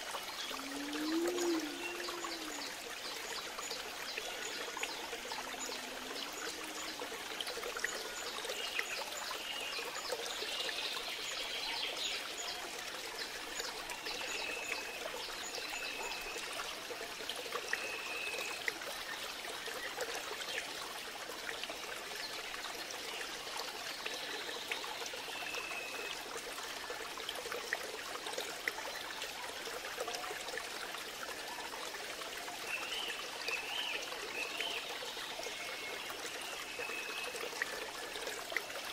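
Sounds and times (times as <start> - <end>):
rushing water noise: 0.0 - 38.9.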